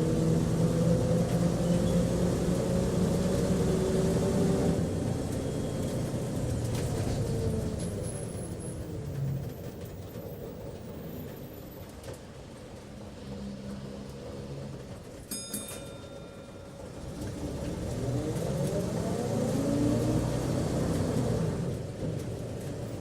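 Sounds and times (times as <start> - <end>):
bus engine and road noise: 0.0 - 23.0.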